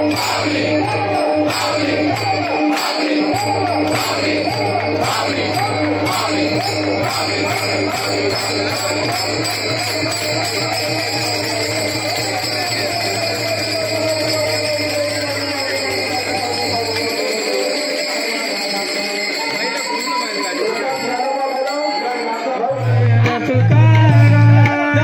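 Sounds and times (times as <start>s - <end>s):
metal hand cymbals jingling: 0.0s - 22.9s
wavering melody: 0.0s - 24.0s.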